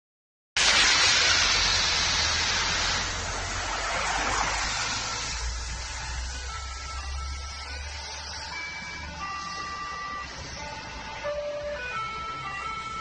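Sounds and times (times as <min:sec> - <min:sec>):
passing vehicles rushing: 0:00.6 - 0:13.0.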